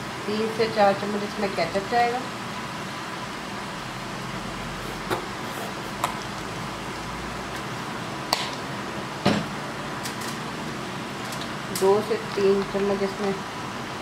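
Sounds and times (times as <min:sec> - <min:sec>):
steady fan-like hiss: 0:00.0 - 0:14.0.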